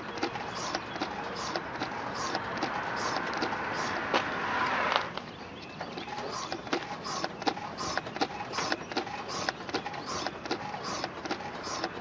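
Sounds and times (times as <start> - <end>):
car suspension clicking: 0.0 - 12.0.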